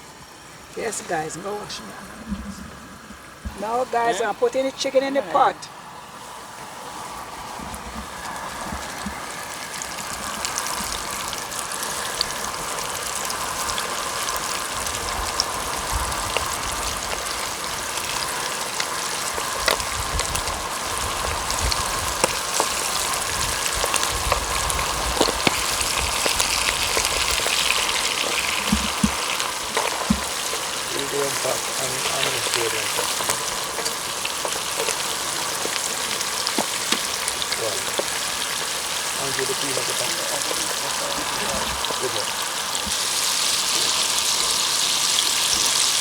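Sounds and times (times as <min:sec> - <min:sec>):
chicken frying in hot oil: 0:05.8 - 0:46.0.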